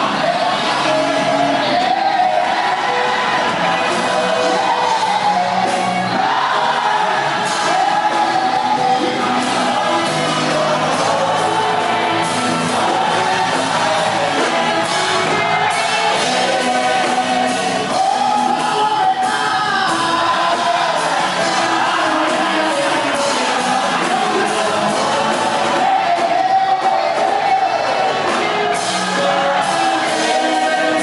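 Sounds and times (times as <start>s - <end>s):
congregation shouting: 0.0s - 31.0s
voices singing with instruments: 0.0s - 31.0s.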